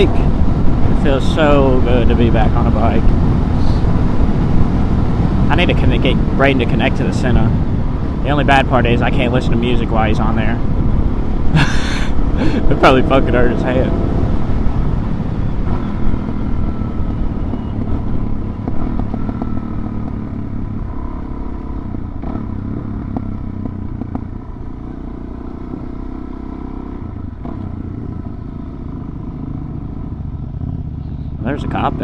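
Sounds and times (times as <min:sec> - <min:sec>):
motorcycle engine running: 0:00.1 - 0:32.0.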